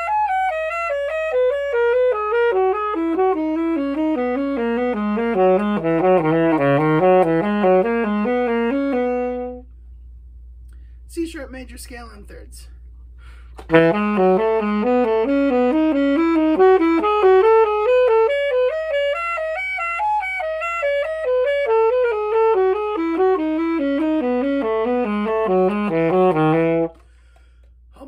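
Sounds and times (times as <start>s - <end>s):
alto saxophone playing scale: 0.0s - 9.8s, 13.5s - 27.8s.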